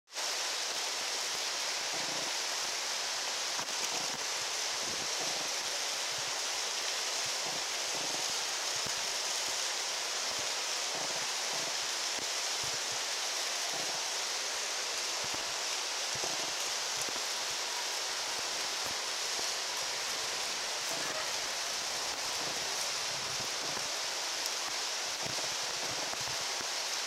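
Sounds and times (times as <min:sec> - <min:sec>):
outdoor background hiss: 0:00.1 - 0:27.0.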